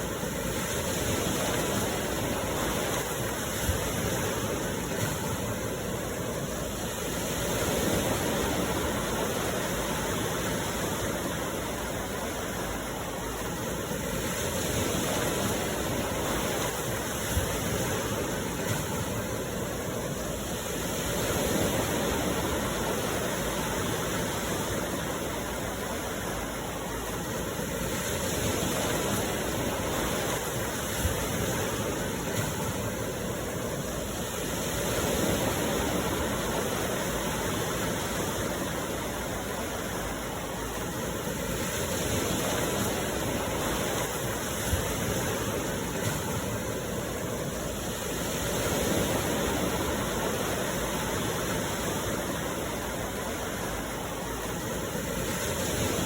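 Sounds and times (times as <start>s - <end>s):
sea surf washing ashore: 0.0s - 56.0s.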